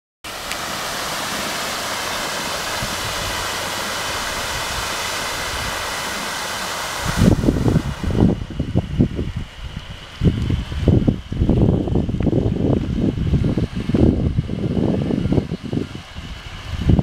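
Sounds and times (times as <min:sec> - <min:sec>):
fountain water splashing: 0:00.2 - 0:17.0
wind buffeting microphone: 0:01.8 - 0:17.0.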